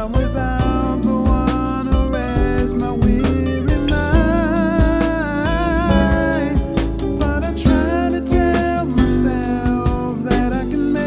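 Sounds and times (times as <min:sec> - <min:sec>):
bass: 0:00.0 - 0:11.0
neo-soul music: 0:00.0 - 0:11.0
steady drum beat: 0:00.0 - 0:11.0
wavering melody line: 0:00.0 - 0:11.0.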